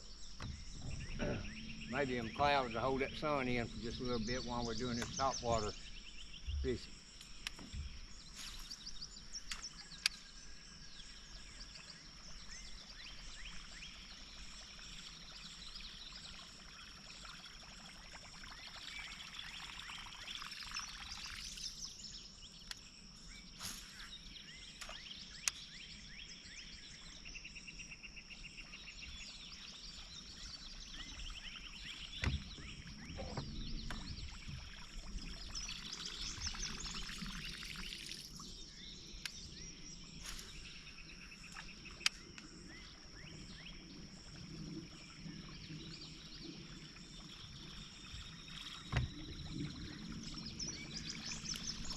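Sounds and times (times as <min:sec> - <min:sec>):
birds chirping: 0:00.0 - 0:17.1, 0:17.9 - 0:51.9.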